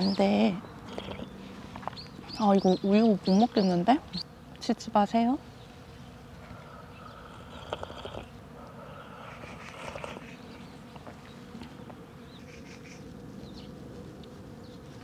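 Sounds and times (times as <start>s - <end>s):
insect buzzing hum: 0.0s - 15.0s.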